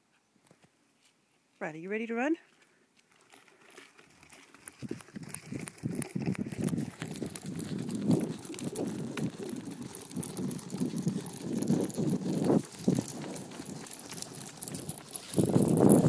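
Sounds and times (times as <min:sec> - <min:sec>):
running footsteps on asphalt: 0:02.5 - 0:16.0.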